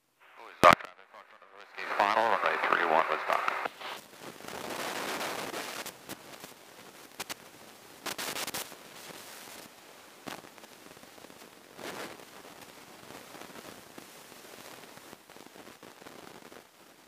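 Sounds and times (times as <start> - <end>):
crackles and pops: 0.2 - 17.0.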